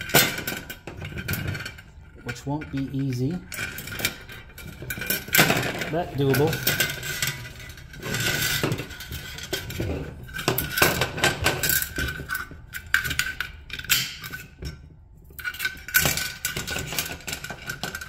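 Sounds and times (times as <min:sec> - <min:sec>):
metal spring rattling and clinking: 0:00.0 - 0:18.0.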